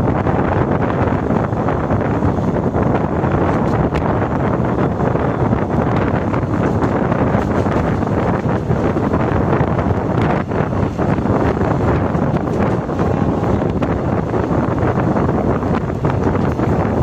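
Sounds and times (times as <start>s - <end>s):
moving train running noise: 0.0s - 17.0s
wind on microphone: 0.0s - 17.0s.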